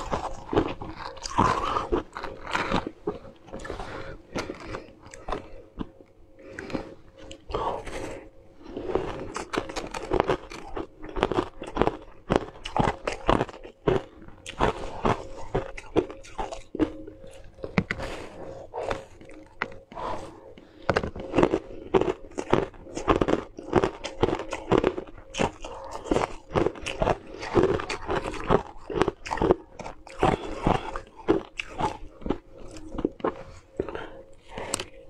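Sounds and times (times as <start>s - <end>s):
chewing ice cubes: 0.0s - 35.0s.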